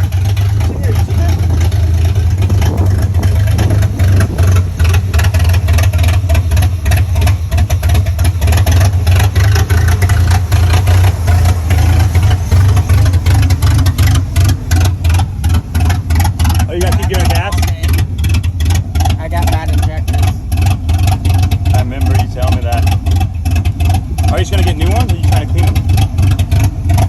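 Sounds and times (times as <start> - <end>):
truck engine running unevenly: 0.0 - 27.0.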